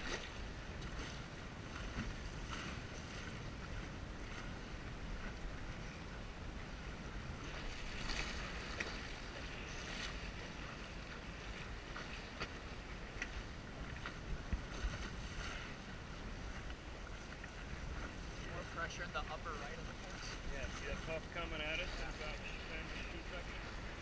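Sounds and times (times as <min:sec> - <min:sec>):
water splashing along hull: 0:00.0 - 0:24.0
wind rumbling on microphone: 0:00.0 - 0:24.0.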